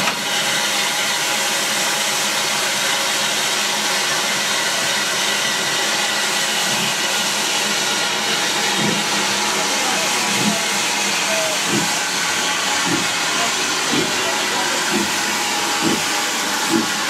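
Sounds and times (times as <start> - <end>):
loud hiss of escaping steam: 0.0 - 17.0
steam locomotive exhaust chuffs: 0.0 - 17.0.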